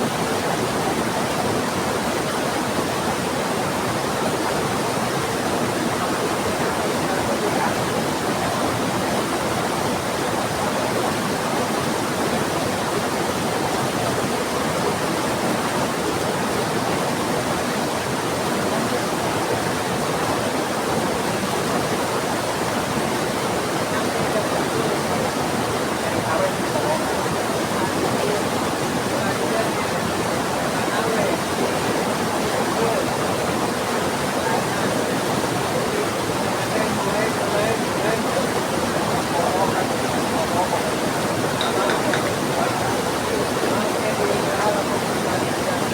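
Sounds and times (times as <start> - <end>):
heavy rain: 0.0 - 45.9
rushing river: 0.0 - 45.9.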